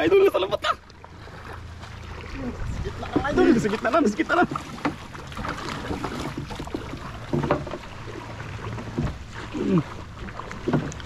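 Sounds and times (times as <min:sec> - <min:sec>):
paddle strokes splashing: 0:00.0 - 0:11.0
water lapping at hull: 0:00.0 - 0:11.0.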